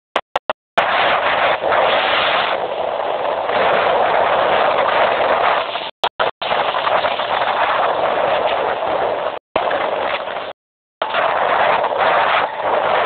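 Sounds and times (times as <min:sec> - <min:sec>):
wind buffeting microphone: 0:00.8 - 0:13.0.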